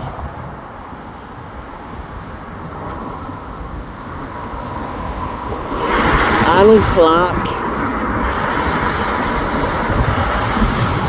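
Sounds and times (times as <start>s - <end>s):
traffic hissing on wet street: 0.0s - 11.0s.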